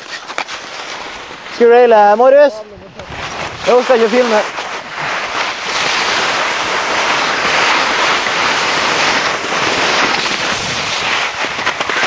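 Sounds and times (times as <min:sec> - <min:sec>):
skis sliding over hard snow: 0:00.0 - 0:12.0.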